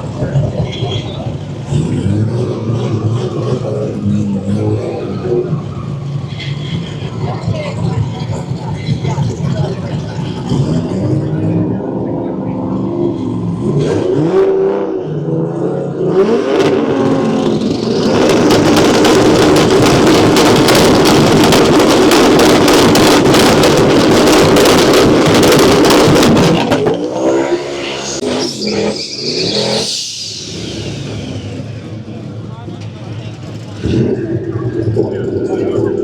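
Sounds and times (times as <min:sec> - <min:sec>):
car engine full-throttle run: 0:00.0 - 0:36.0
drag racing car engines revving: 0:00.0 - 0:36.0.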